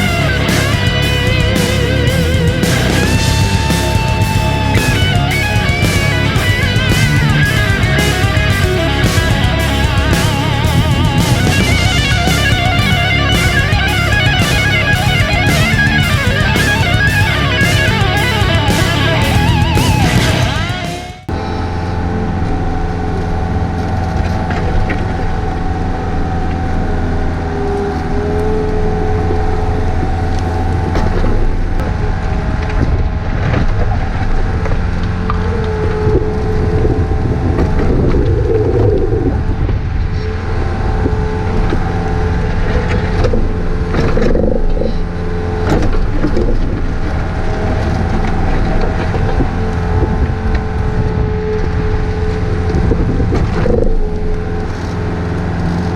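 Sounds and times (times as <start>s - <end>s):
excavator diesel engine running: 0.0s - 55.9s
hydraulic whine: 0.0s - 55.9s.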